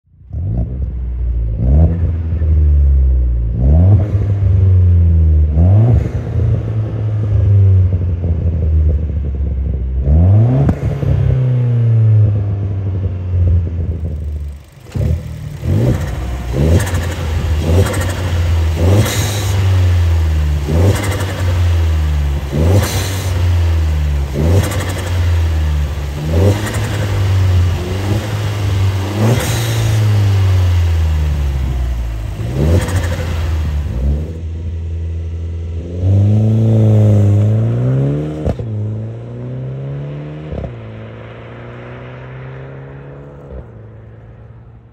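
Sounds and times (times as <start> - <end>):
car engine idling and revving: 0.0 - 44.9
car pulling away: 0.5 - 44.9.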